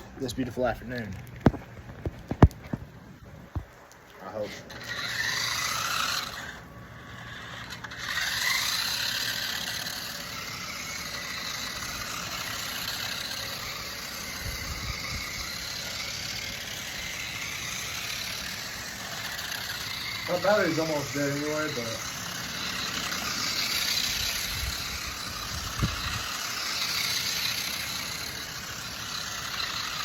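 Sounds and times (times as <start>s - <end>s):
rc car motor whining: 3.5s - 30.0s.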